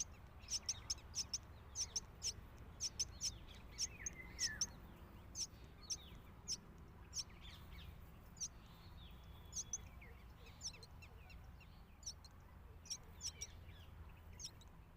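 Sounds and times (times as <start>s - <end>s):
bird chick begging chirps: 0.0s - 13.6s.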